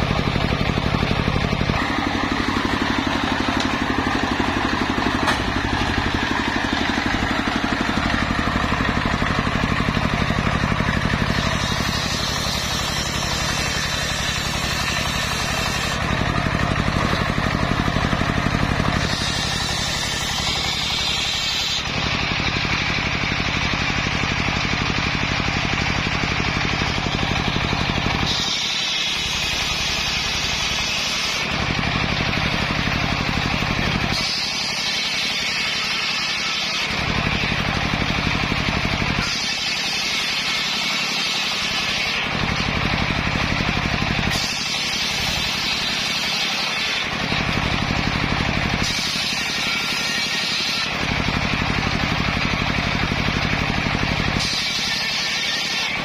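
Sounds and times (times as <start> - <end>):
circular saw ripping logs: 0.0 - 56.0.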